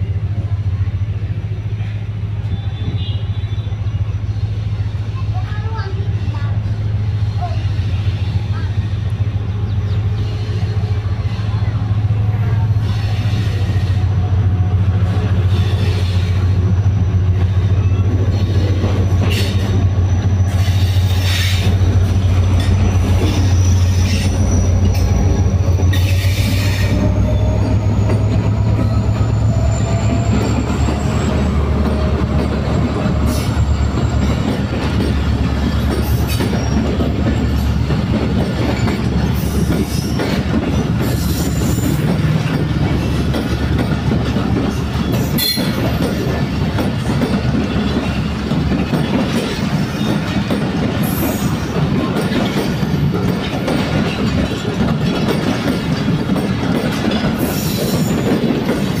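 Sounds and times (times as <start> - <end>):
diesel locomotive engine droning: 0.0 - 59.0
wheels clattering on rail joints: 7.4 - 59.0.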